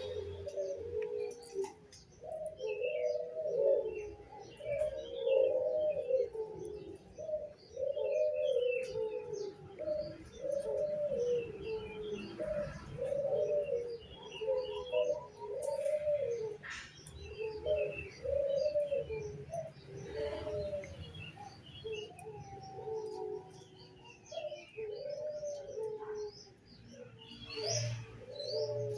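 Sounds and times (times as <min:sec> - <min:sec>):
doves cooing: 0:00.0 - 0:28.9
small birds chirping: 0:00.0 - 0:28.9.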